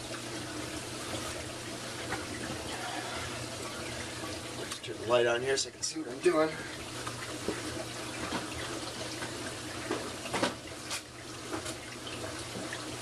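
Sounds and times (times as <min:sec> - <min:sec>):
aquarium water running and splashing: 0:00.0 - 0:13.0.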